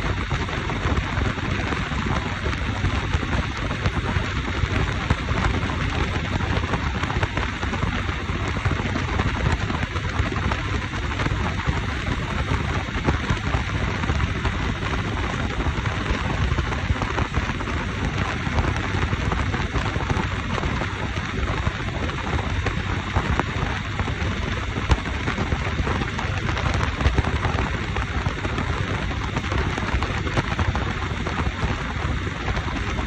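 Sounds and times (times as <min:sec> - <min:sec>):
motorcycle low rumble: 0:00.0 - 0:33.0
wind buffeting microphone: 0:00.0 - 0:33.0.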